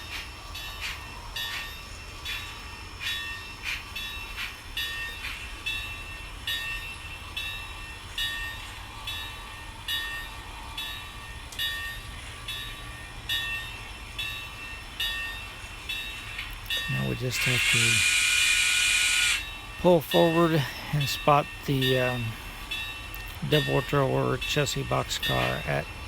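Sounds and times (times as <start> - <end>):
steam locomotive exhaust chuffs: 0.0 - 26.0.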